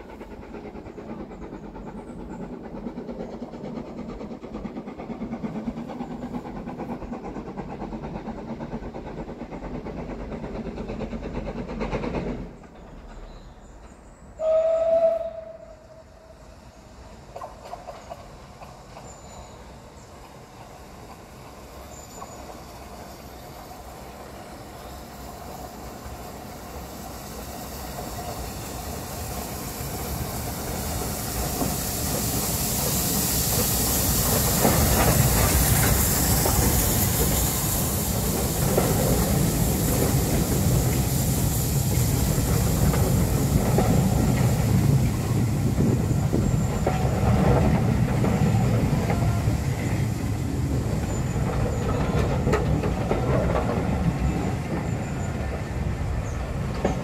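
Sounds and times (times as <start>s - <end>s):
hiss of steam: 0.0s - 12.6s, 14.0s - 57.0s
train wheels clicking over rail joints: 0.0s - 14.5s, 17.1s - 57.0s
steam locomotive passing: 0.0s - 57.0s.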